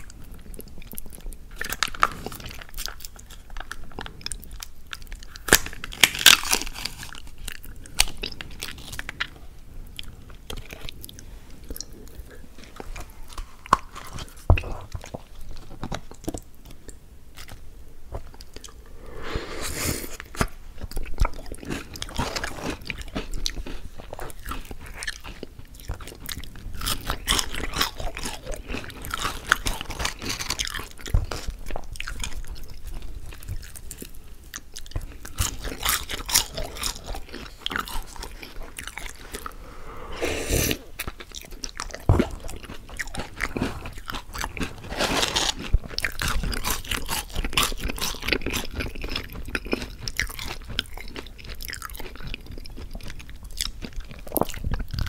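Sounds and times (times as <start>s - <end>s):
crunchy chewing of fried food: 0.0s - 19.2s, 19.9s - 55.0s.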